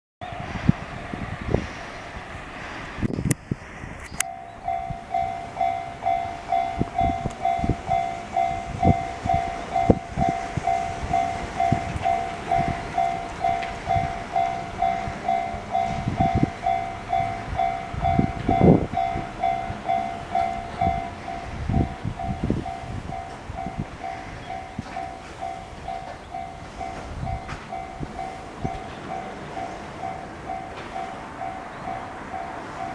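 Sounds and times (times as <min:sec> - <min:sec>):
level crossing bell dinging: 0:04.2 - 0:32.9
train wheels thumping: 0:06.1 - 0:32.9.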